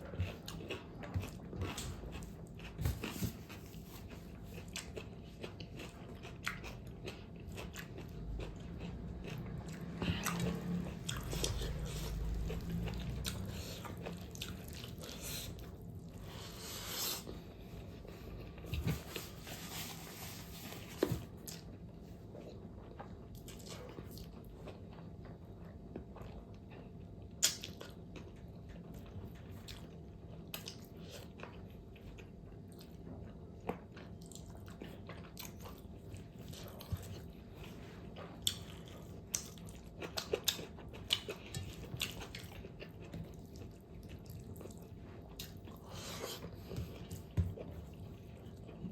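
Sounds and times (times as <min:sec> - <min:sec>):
person chewing pork fat: 0:00.0 - 0:48.9.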